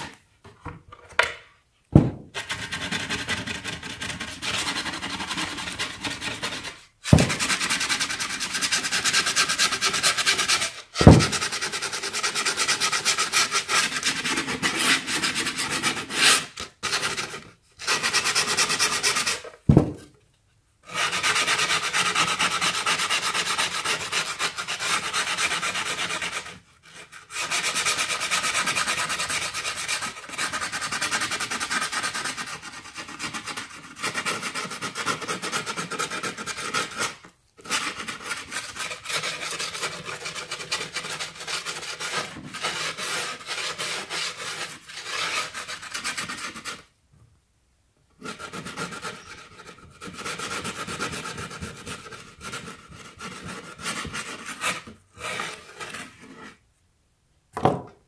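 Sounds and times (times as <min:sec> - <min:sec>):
sanding grip tape by hand: 0:02.4 - 0:19.6, 0:20.9 - 0:46.9, 0:48.2 - 0:56.6.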